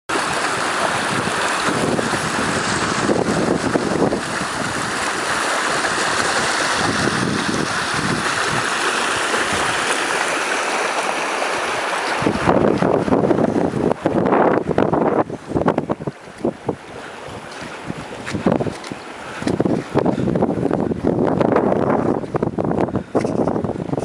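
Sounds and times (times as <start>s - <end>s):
floodwater rushing: 0.1s - 24.0s
wind gusts on microphone: 0.2s - 10.4s, 11.1s - 24.0s.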